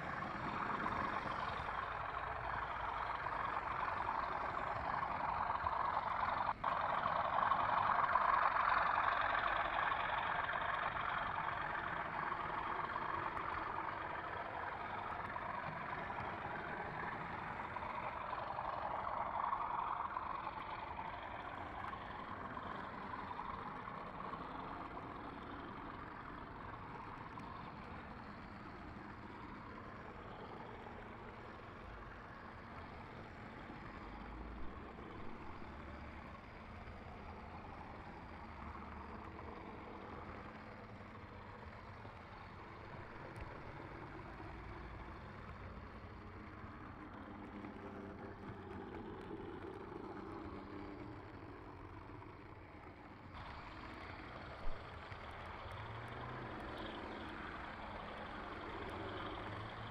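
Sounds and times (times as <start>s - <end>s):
model train rumbling on rails: 0.0s - 59.9s.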